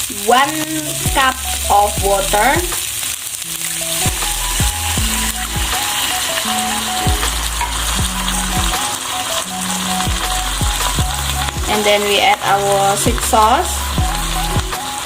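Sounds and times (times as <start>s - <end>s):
food sizzling in a pan: 0.0s - 15.0s
background music with bass: 0.6s - 2.8s, 3.5s - 11.8s, 12.6s - 15.0s.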